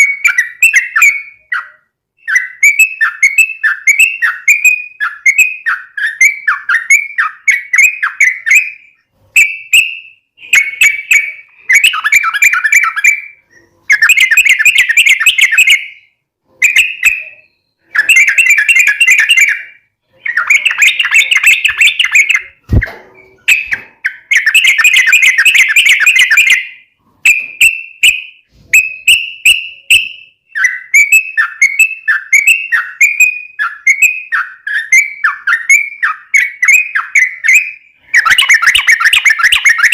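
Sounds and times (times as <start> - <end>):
bird rapid chattering: 0.0 - 16.0, 16.6 - 39.9.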